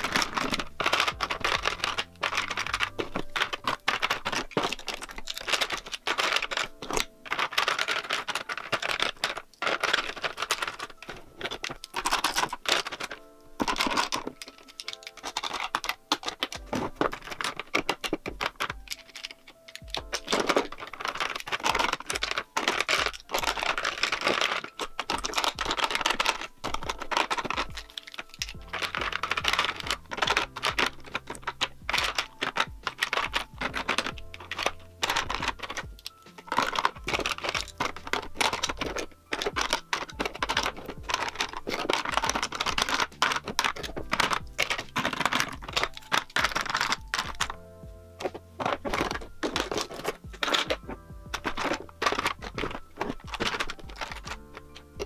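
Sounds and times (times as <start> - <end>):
background music: 0.0 - 55.0
plastic tubes clicking and clattering: 0.0 - 55.0.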